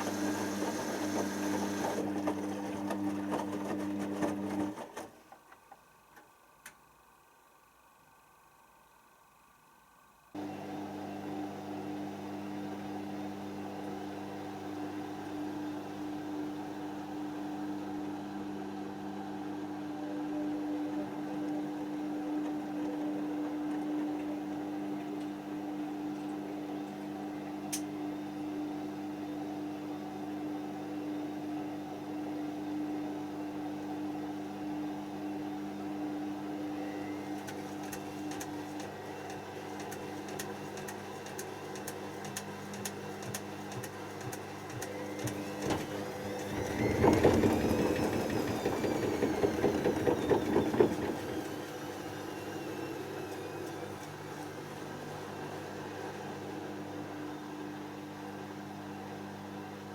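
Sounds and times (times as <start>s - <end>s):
washing machine motor hum: 0.0s - 6.1s, 10.0s - 59.9s.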